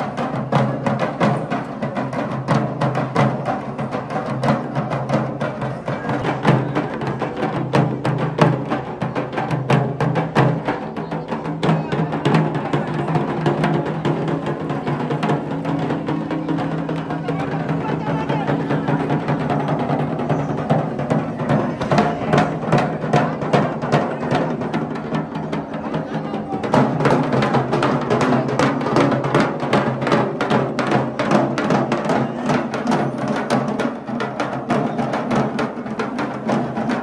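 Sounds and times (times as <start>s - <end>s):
barrel drums beaten fast: 0.0s - 37.0s.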